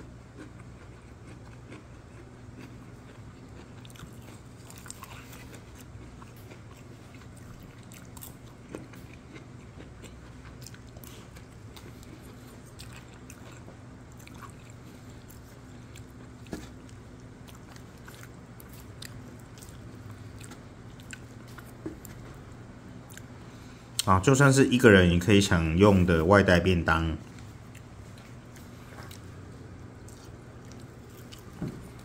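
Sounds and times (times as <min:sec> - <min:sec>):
person chewing and biting: 0:00.0 - 0:23.4, 0:27.3 - 0:32.0.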